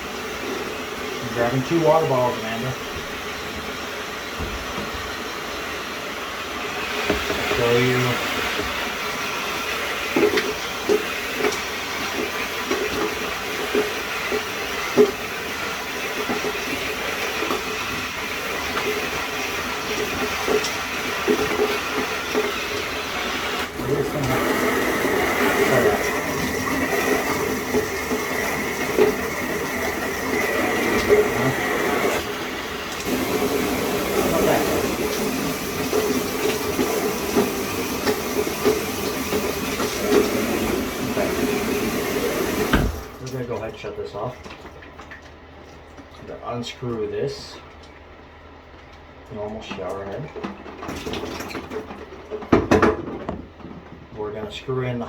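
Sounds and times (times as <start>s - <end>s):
shower spraying water: 0.0s - 44.3s.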